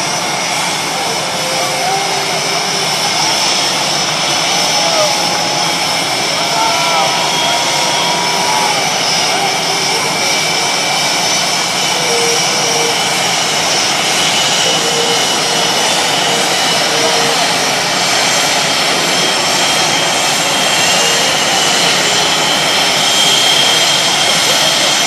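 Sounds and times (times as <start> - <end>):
high-pitched turbine whine: 0.0 - 25.0
jet engines running: 0.0 - 25.0.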